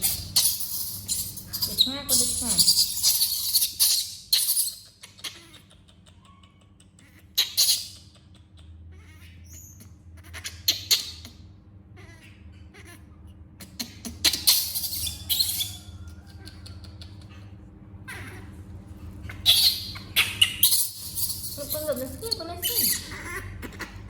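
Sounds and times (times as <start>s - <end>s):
baby monkey squeaking: 0.0s - 11.4s, 12.0s - 17.5s, 18.1s - 18.6s, 19.2s - 24.0s
faint low hum: 0.0s - 24.0s.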